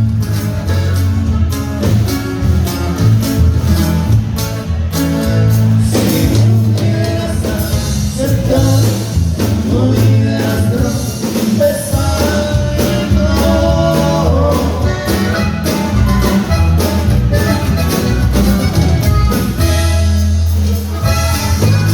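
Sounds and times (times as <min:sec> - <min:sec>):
band music with singing: 0:00.0 - 0:21.9
steady bass beat: 0:00.0 - 0:21.9.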